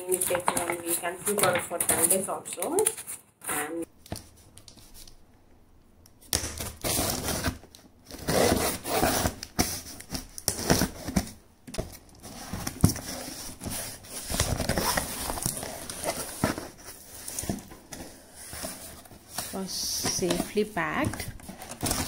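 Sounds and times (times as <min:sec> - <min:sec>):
packaging rustling and tearing: 0:00.0 - 0:03.3, 0:06.5 - 0:20.5, 0:21.1 - 0:22.0.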